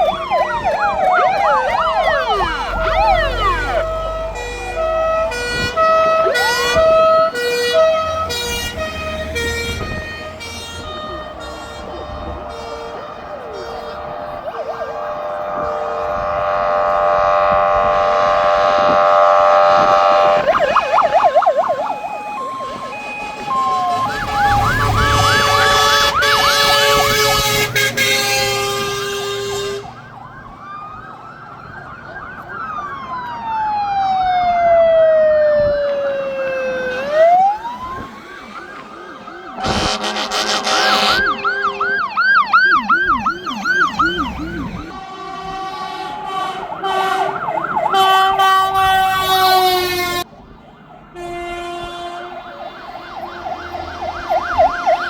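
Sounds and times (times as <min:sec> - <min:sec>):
horn tones: 0:00.0 - 0:30.1, 0:39.4 - 0:50.3, 0:51.1 - 0:55.0
fire engine sirens: 0:00.0 - 0:55.0.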